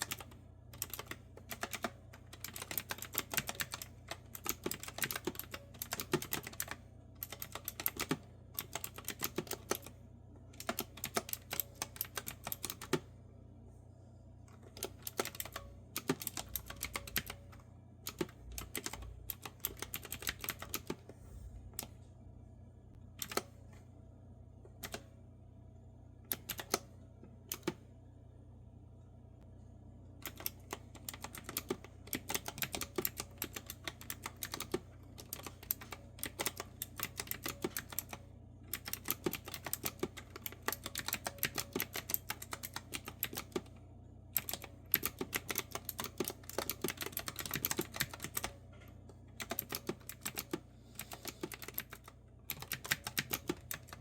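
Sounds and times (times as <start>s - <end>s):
keyboard typing: 0.0s - 13.1s, 14.5s - 21.1s, 23.2s - 23.5s, 26.3s - 27.8s, 30.2s - 43.8s, 44.4s - 54.0s.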